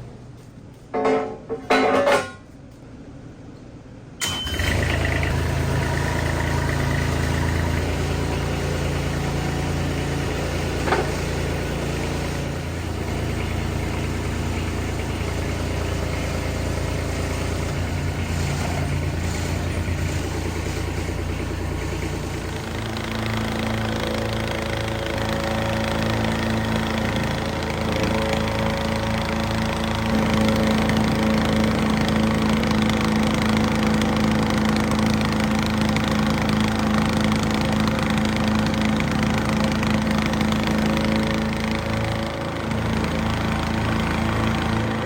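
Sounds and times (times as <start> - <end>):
engine starting and running: 4.2 - 45.0.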